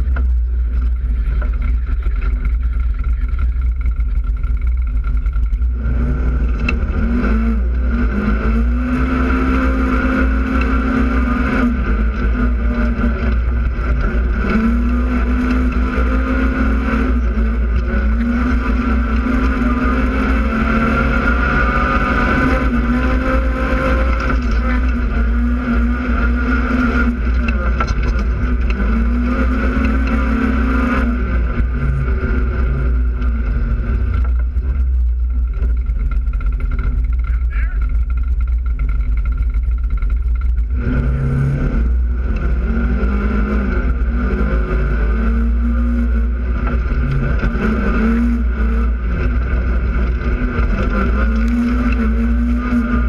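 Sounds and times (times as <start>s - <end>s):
vehicle engine revving: 0.0s - 53.0s
wind rumble on camera: 0.0s - 53.0s.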